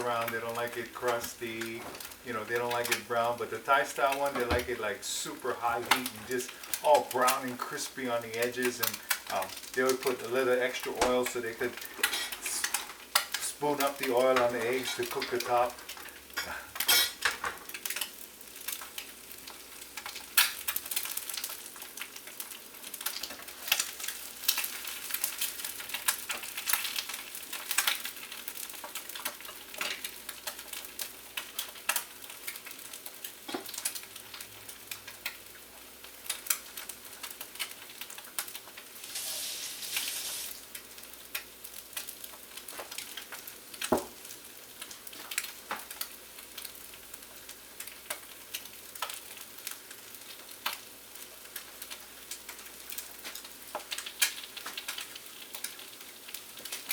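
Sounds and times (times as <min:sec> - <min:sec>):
eggs sizzling in oil: 0:00.0 - 0:56.9
oil popping and crackling: 0:00.0 - 0:56.9.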